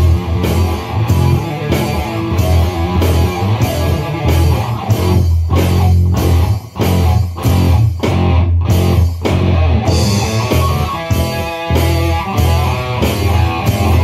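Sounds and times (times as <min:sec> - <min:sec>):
distorted electric guitar riff: 0:00.0 - 0:14.0
electronic drum kit: 0:00.0 - 0:14.0.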